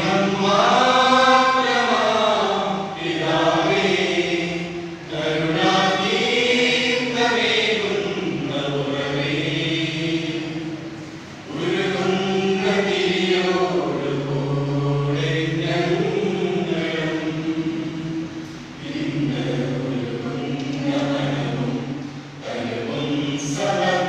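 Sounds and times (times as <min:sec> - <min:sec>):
mixed choir singing: 0:00.0 - 0:24.0.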